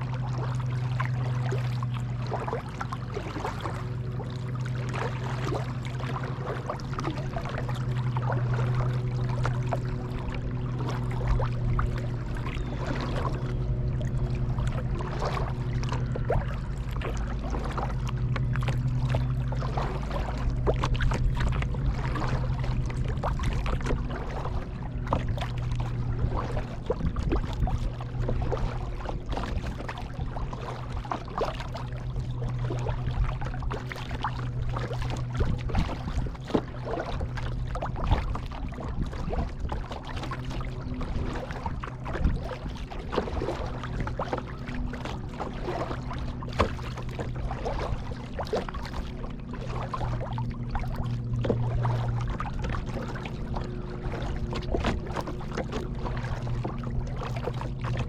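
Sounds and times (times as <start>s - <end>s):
paddle dipping in water: 0.0s - 58.0s
steady low hum: 0.0s - 58.0s.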